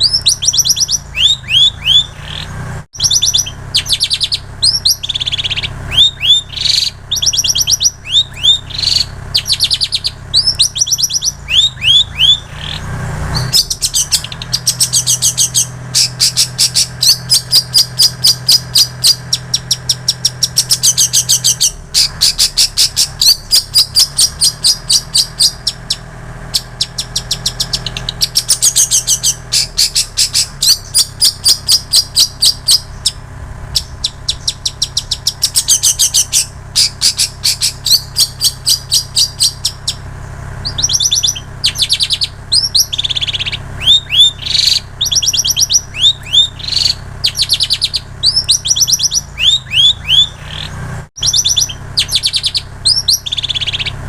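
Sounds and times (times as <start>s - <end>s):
bird singing chattering and whistles: 0.0s - 54.0s.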